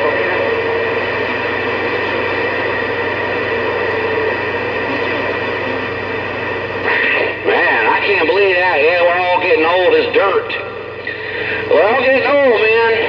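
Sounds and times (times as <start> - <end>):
low hum: 0.0 - 13.0
radio static hiss: 0.0 - 13.0.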